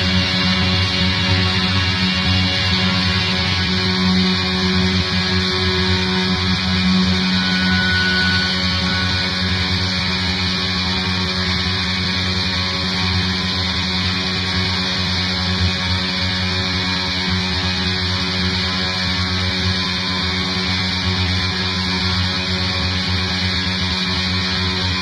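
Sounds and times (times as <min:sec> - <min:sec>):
distorted electric guitar metal: 0:00.0 - 0:25.0.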